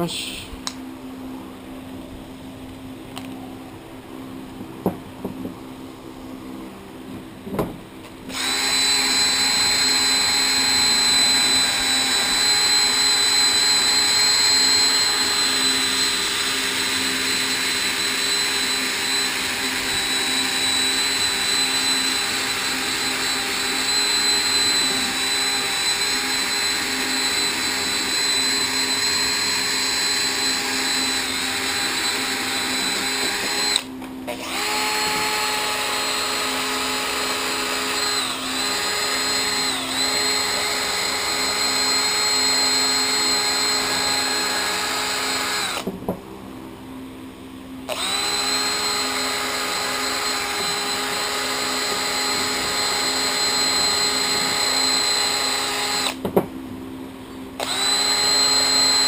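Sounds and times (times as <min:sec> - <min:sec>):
drill spinning wire brush: 0:08.3 - 0:45.9, 0:47.9 - 0:56.2, 0:57.6 - 0:59.0.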